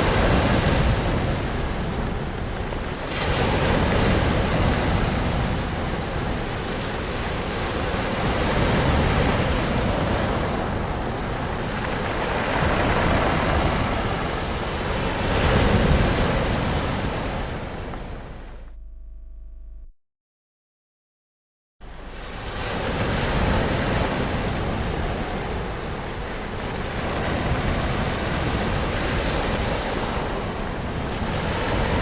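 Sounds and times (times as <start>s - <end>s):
ocean waves breaking on shore: 0.0s - 18.5s, 21.8s - 32.0s.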